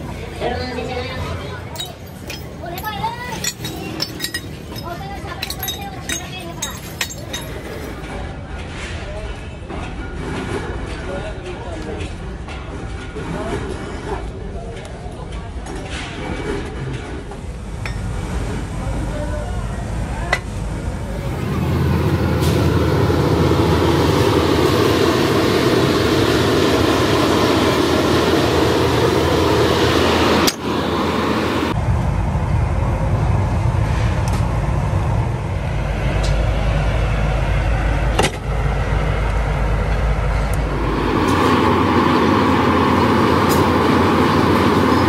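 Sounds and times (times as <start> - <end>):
foundry machinery roar: 0.0 - 14.9, 15.8 - 45.0.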